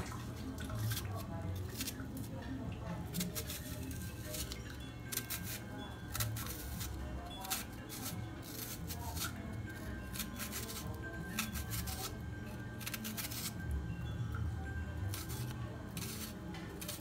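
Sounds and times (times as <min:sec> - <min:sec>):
background music: 0:00.0 - 0:17.0
knife slicing onion: 0:00.8 - 0:02.4, 0:03.0 - 0:13.7, 0:15.0 - 0:17.0.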